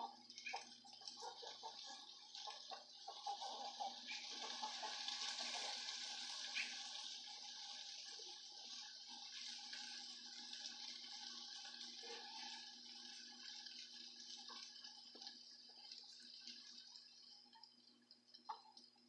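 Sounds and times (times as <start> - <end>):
faint hiss of running water: 0.0 - 19.0.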